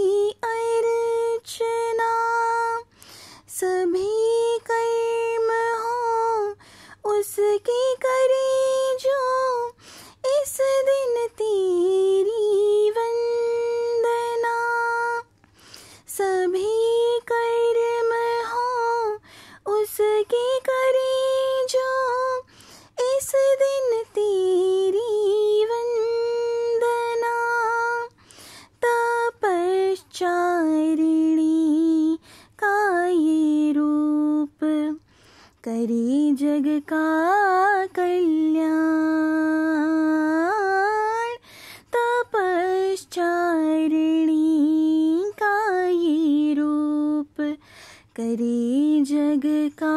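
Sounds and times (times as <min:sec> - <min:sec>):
woman singing devotional song: 0:00.0 - 0:49.9.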